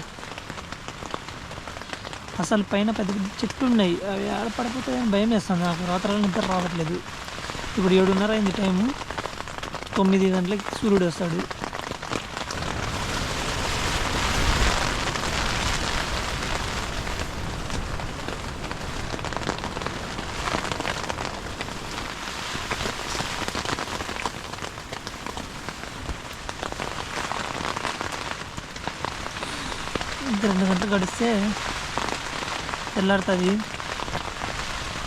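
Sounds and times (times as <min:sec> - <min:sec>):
heavy rain pelting a tent: 0:00.0 - 0:35.0.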